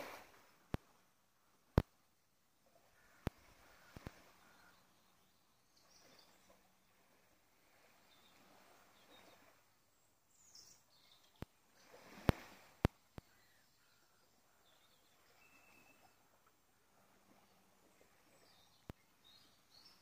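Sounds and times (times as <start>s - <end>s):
seaside ambience: 0.0s - 20.0s
faint bird chirps: 2.7s - 12.2s, 13.0s - 20.0s.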